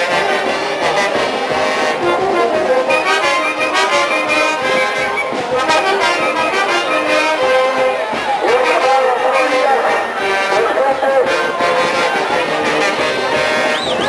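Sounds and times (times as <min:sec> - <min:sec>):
steady low beat: 0:00.0 - 0:14.0
wind instruments playing melody: 0:00.0 - 0:14.0.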